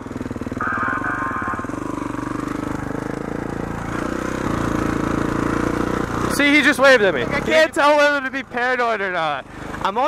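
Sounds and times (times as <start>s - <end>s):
dirt bike engine idling: 0.0s - 10.0s.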